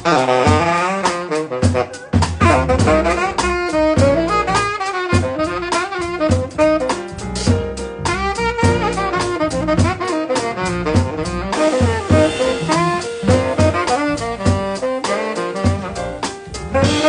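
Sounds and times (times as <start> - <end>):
double bass: 0.0 - 17.0
drums: 0.0 - 17.0
piano: 0.0 - 17.0
tenor saxophone jazz solo: 0.0 - 17.0.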